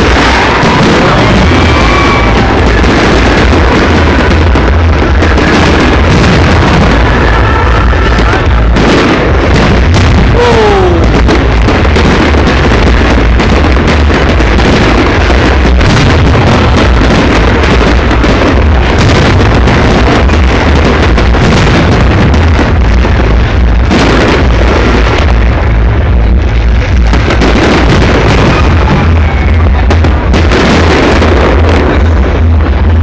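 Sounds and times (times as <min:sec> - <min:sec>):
falling firework whistle: 0:00.0 - 0:23.2, 0:27.3 - 0:32.0
fireworks bangs and crackling: 0:00.0 - 0:33.0
low rumble: 0:00.0 - 0:33.0.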